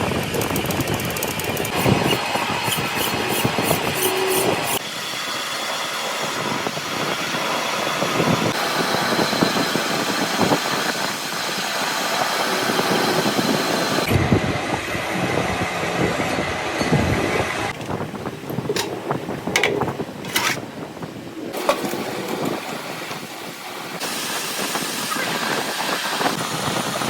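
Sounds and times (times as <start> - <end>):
workshop machinery noise: 0.0 - 27.0.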